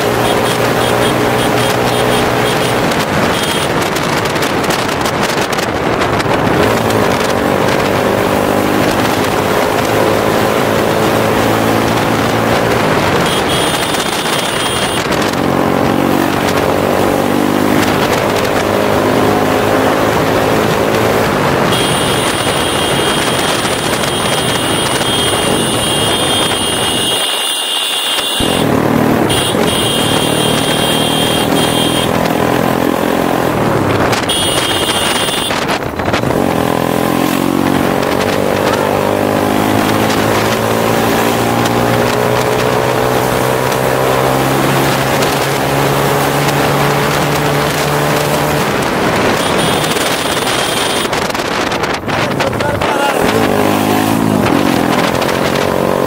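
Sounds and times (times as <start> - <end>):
motorcycle engine revving: 0.0 - 56.0
wind rushing over microphone: 1.3 - 27.2, 31.3 - 56.0.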